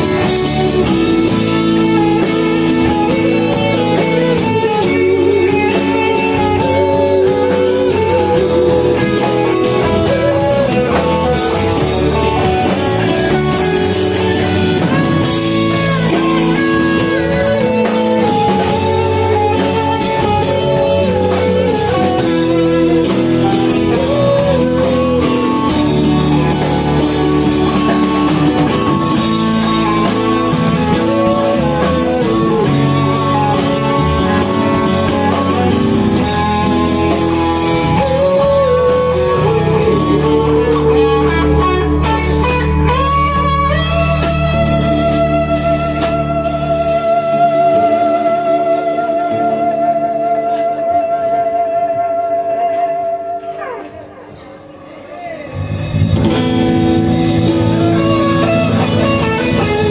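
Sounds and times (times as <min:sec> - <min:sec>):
drum kit: 0:00.0 - 0:59.9
guitar-led band music: 0:00.0 - 0:59.9.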